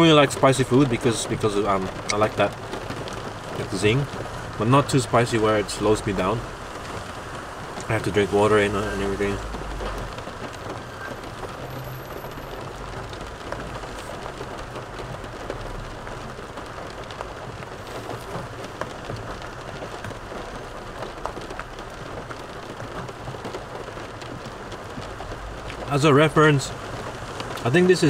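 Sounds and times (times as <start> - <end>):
rain on a car roof: 0.0 - 28.0.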